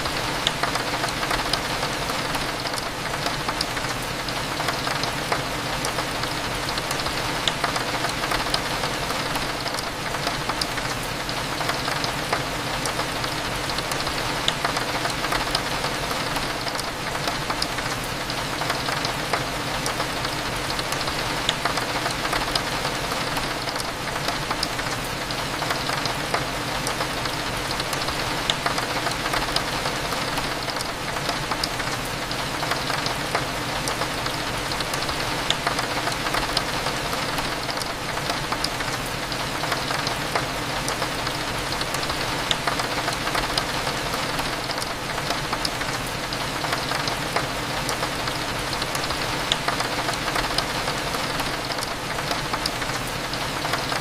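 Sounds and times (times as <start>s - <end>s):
rain ticking on window: 0.0s - 54.0s.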